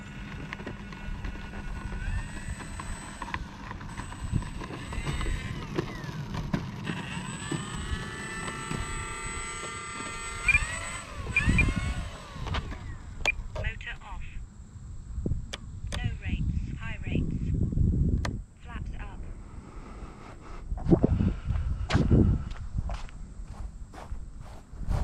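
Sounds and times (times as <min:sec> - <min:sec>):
electric motor and propeller whining: 0:00.0 - 0:13.8, 0:14.4 - 0:25.0.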